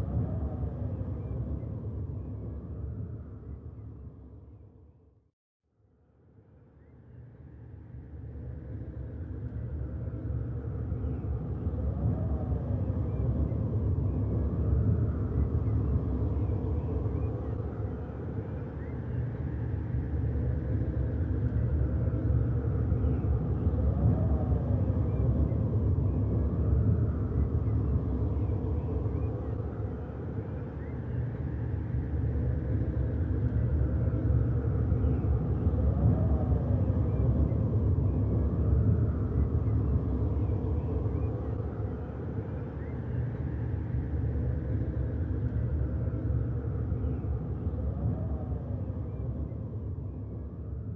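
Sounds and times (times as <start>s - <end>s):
low rumbling ambience: 0.0s - 4.8s, 7.5s - 50.9s.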